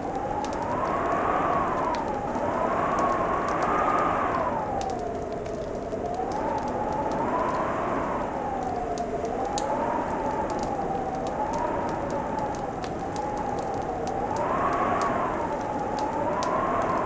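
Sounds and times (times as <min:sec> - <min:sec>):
howling wind: 0:00.0 - 0:17.0
wood fire crackling and popping: 0:00.0 - 0:17.0.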